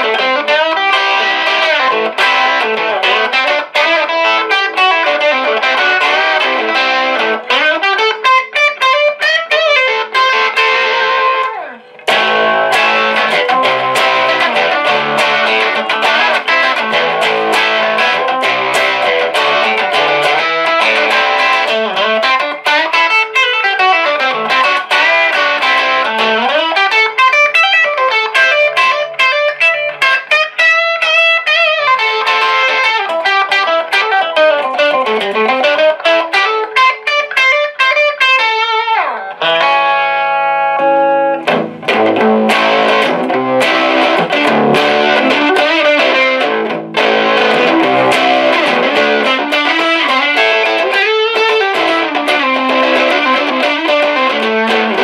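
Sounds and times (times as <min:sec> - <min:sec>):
amplified electric guitar: 0:00.0 - 0:55.0.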